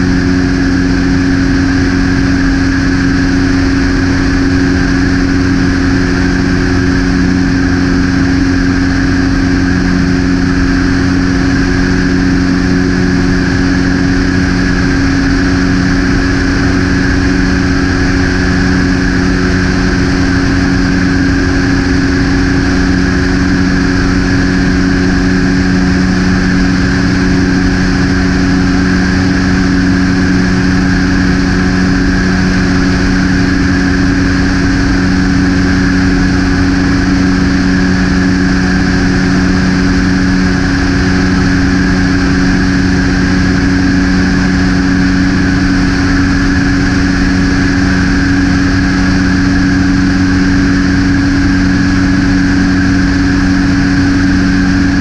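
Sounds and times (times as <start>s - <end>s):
airflow rushing: 0.0s - 55.0s
propeller aircraft engine droning: 0.0s - 55.0s.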